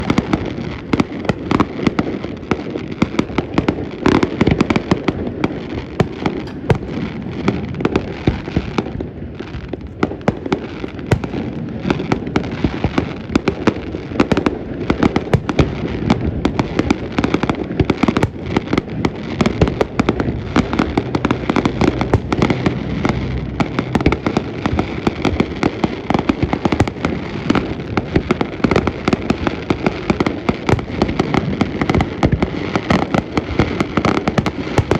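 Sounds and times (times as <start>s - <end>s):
fireworks barrage of bangs: 0.0s - 34.9s.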